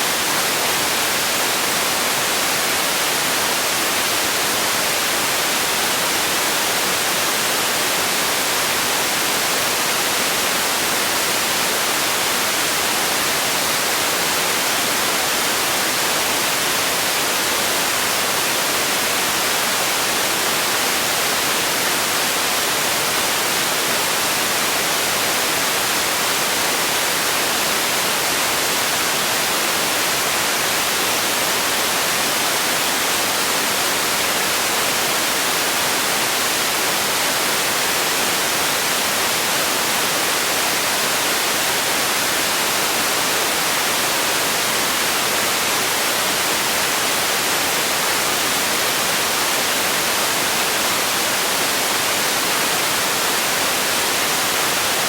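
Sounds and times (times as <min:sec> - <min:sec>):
steady static-like hiss: 0:00.0 - 0:55.0.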